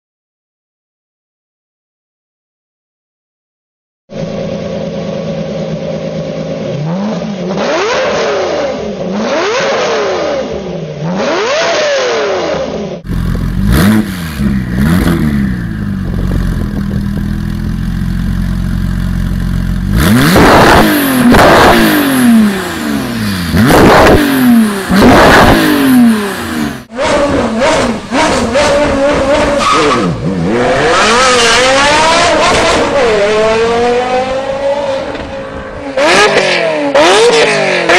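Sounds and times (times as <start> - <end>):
sports car engines revving: 4.2 - 37.9.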